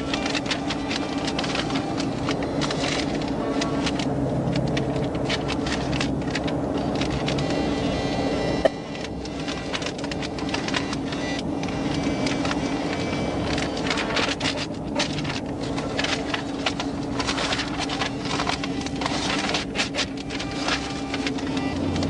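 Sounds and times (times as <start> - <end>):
rapid mechanical clicking: 0.0 - 22.0.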